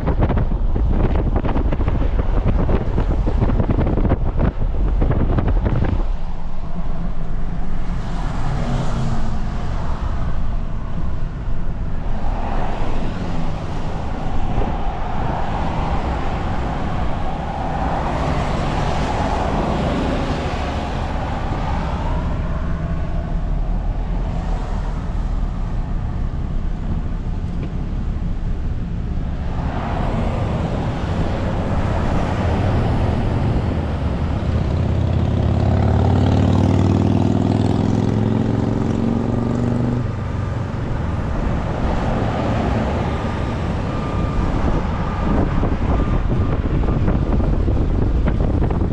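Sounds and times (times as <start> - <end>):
truck engine rumble: 0.0 - 48.9
tyre and wind noise: 0.0 - 48.9.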